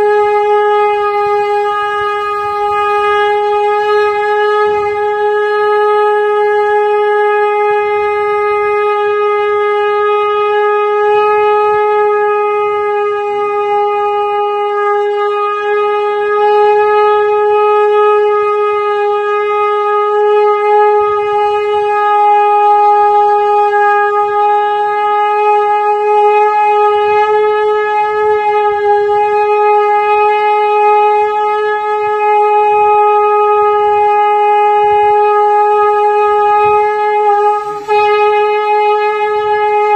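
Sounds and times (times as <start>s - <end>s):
conch shell blown: 0.0s - 39.9s.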